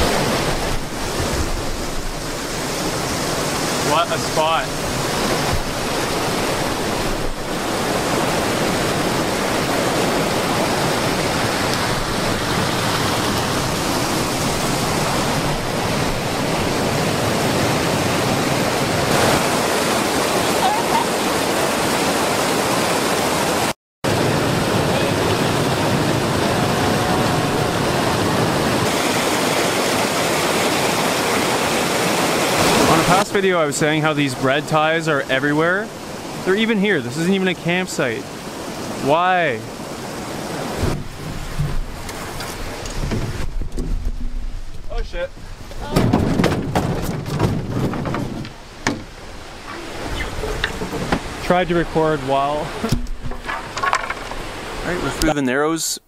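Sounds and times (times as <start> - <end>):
river rapids rushing: 0.0 - 43.5, 48.2 - 55.4.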